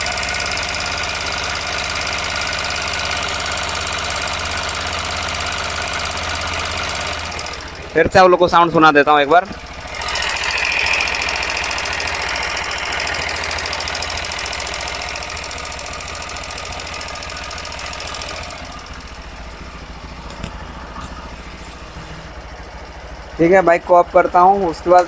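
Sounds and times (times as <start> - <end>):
motorcycle engine running: 0.0 - 25.0
rapid mechanical ticking: 0.0 - 25.0.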